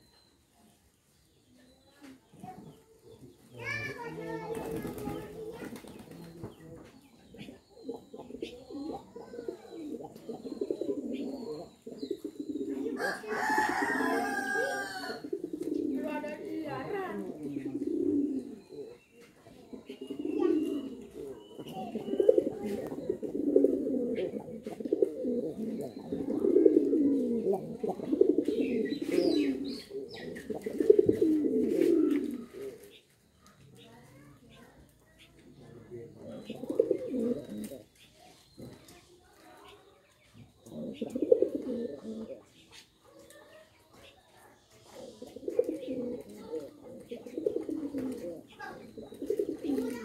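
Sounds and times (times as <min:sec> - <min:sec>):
pigeons cooing: 0:02.2 - 0:50.0.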